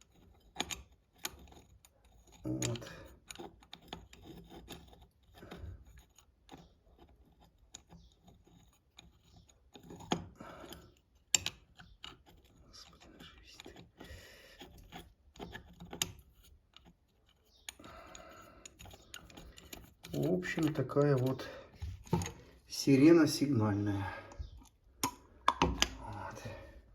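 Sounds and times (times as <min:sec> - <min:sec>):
metal parts clicking and scraping: 0:00.0 - 0:22.8.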